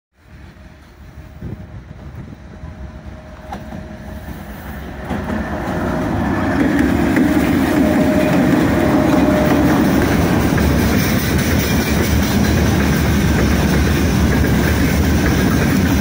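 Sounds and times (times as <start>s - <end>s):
train wheels on rails: 0.2s - 16.0s
electric locomotive running: 0.3s - 16.0s.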